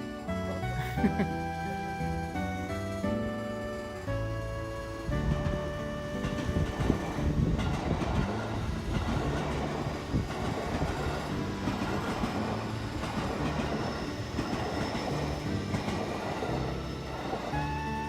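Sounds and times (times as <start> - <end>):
music: 0.0 - 18.0
train passing: 0.0 - 18.0.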